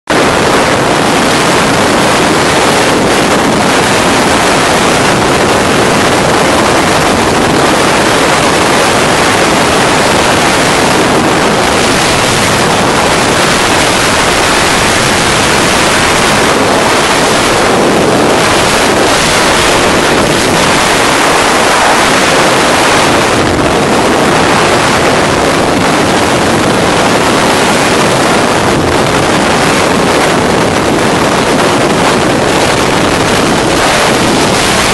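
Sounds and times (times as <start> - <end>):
wind rushing over microphone: 0.0 - 34.9
engine drone: 0.1 - 34.9.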